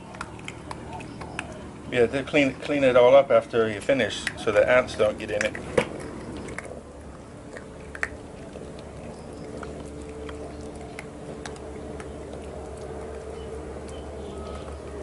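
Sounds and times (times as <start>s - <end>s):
puppies crunching kibble: 0.0s - 15.0s
steady low hum: 0.0s - 15.0s.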